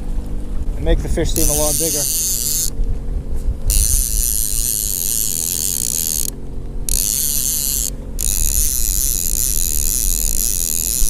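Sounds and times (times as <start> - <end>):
low steady hum: 0.0 - 11.0
fishing reel gear whir: 0.8 - 2.8, 3.6 - 11.0.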